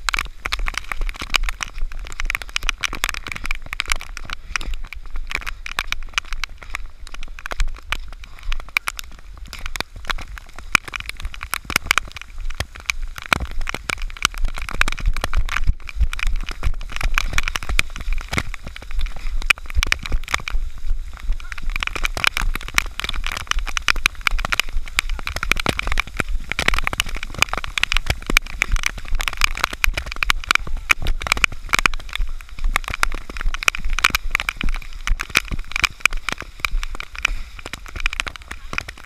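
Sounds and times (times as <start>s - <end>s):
raindrops tapping on camera: 0.0s - 39.0s
steady low rumble: 0.0s - 39.0s.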